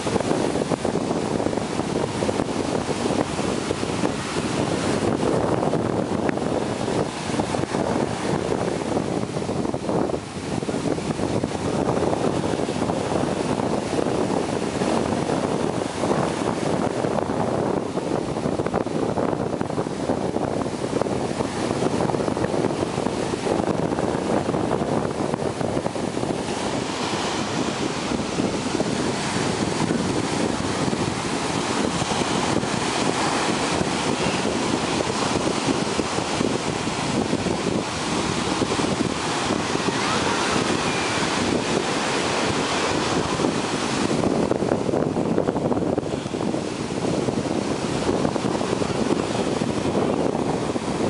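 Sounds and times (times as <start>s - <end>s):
ocean surf breaking: 0.0s - 51.0s
wind buffeting microphone: 0.0s - 51.0s.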